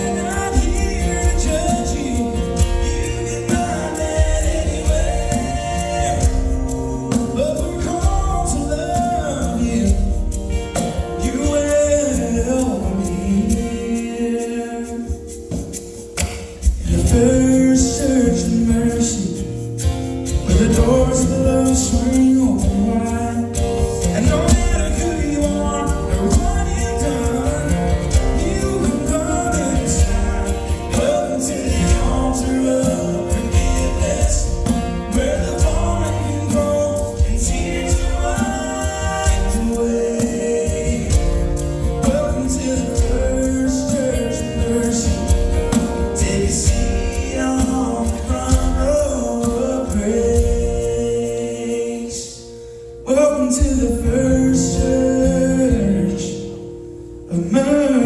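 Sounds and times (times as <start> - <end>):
gospel singing with instruments: 0.0 - 58.0.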